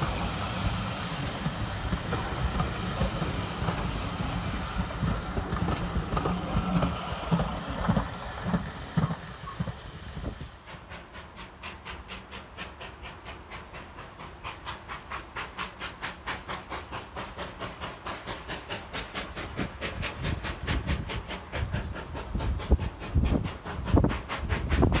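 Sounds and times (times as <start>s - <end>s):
low train rumble: 0.0s - 25.0s
steam locomotive chuffing: 0.0s - 25.0s.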